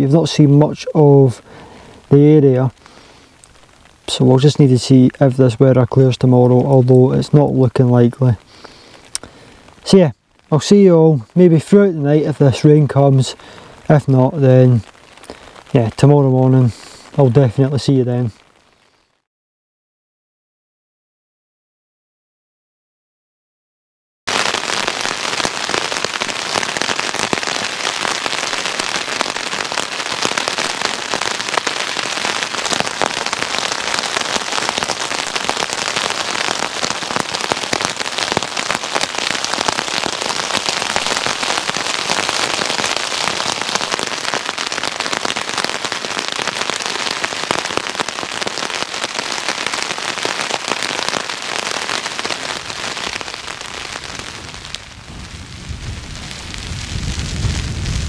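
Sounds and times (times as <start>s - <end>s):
heavy rain on a tent: 0.0s - 19.3s, 24.3s - 58.0s.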